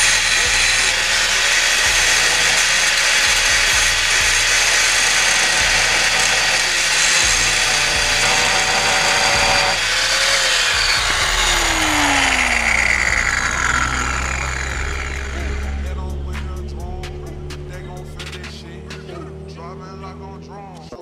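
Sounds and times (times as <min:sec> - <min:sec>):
power grinder grinding metal: 0:00.0 - 0:20.7.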